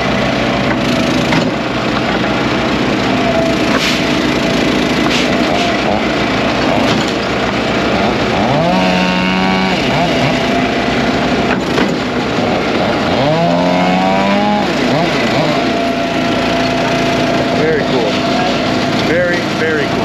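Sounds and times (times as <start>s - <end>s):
chainsaw revving: 0.0s - 20.0s
other engines running: 0.0s - 20.0s.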